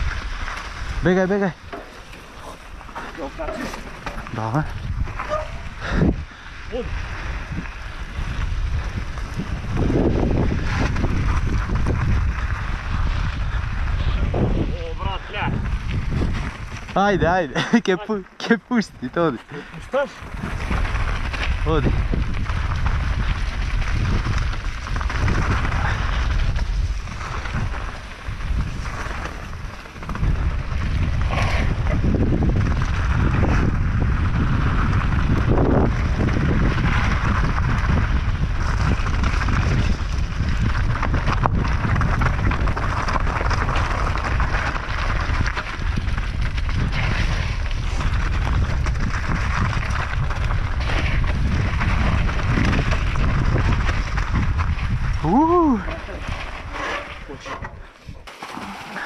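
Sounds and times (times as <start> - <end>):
bike tyres on gravel: 0.0 - 59.0
wind buffeting microphone: 0.0 - 59.0.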